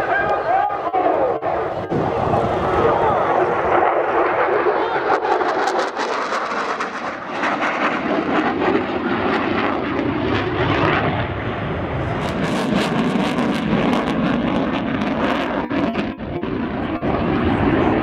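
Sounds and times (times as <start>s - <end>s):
jet engine roaring: 0.0s - 18.0s.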